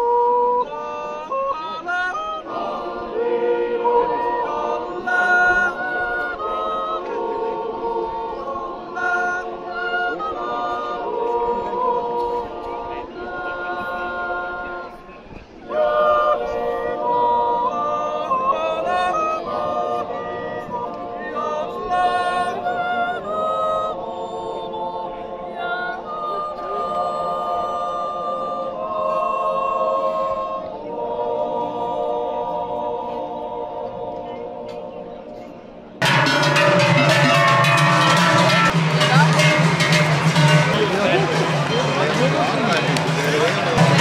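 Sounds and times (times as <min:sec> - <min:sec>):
choir yodelling in harmony: 0:00.0 - 0:44.0.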